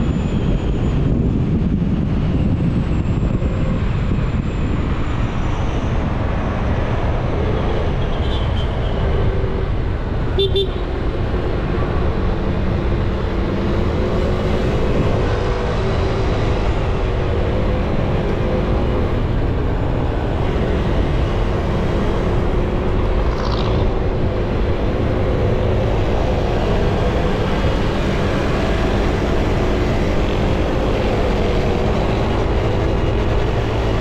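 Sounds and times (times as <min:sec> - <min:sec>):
wind and road noise: 0:00.0 - 0:34.0.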